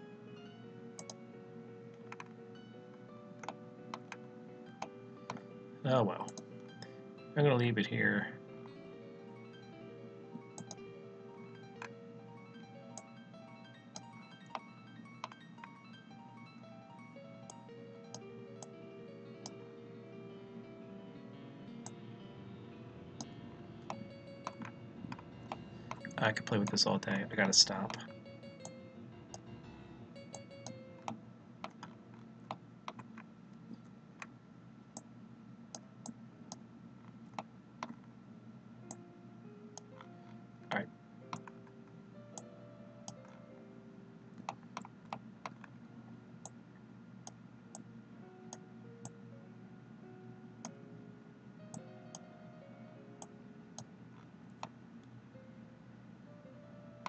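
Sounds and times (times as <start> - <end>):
faint background music: 0.0 - 57.0.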